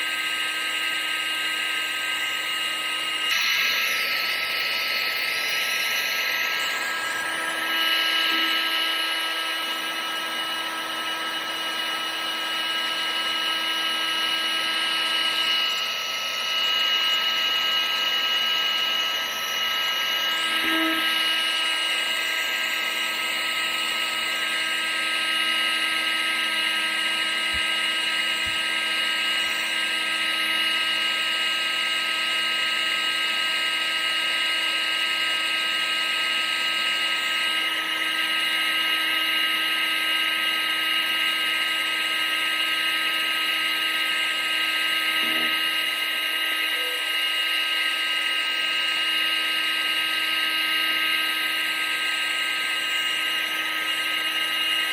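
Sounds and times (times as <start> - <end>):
vacuum cleaner motor whining: 0.0 - 54.9.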